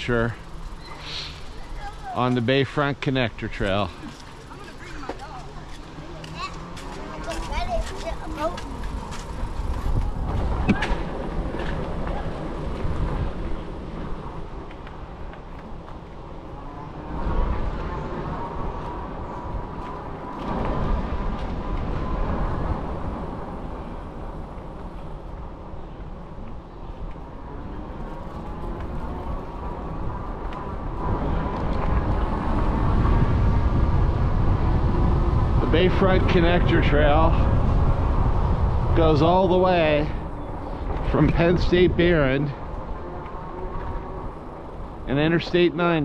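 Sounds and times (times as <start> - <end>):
bike tyre noise: 0.0 - 46.0
wind rumble on microphone: 0.0 - 46.0.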